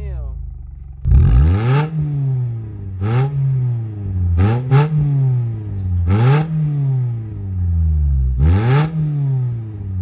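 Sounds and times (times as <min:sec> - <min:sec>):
car engine revving: 0:00.3 - 0:10.0.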